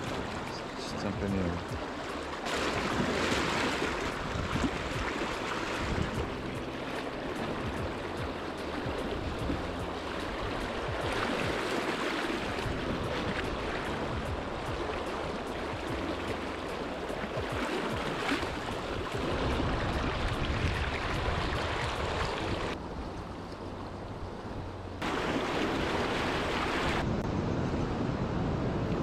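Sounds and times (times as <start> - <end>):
river rushing over rocks: 0.0 - 22.8, 25.0 - 27.2.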